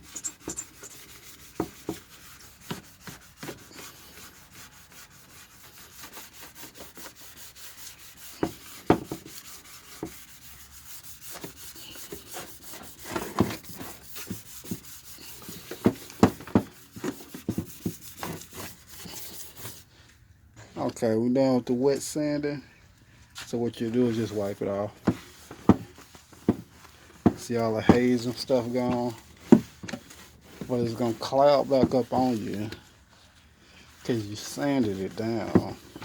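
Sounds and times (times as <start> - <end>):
sandpaper rubbing on plastic: 0.0 - 19.9, 24.1 - 32.8, 33.9 - 36.0.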